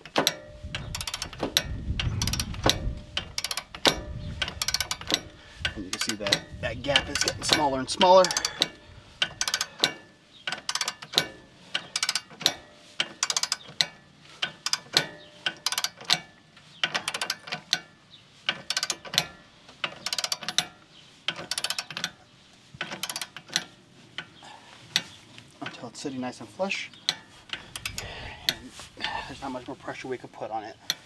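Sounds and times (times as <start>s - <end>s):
ratcheting wrench clicking: 0.0s - 25.8s, 27.0s - 28.7s.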